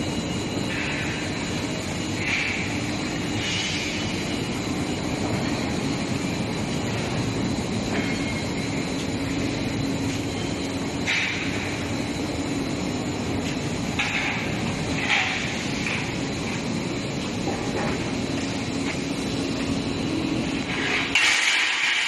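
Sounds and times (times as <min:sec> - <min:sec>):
faint high whine: 0:00.0 - 0:22.0
rolling machinery rumble: 0:00.0 - 0:22.0.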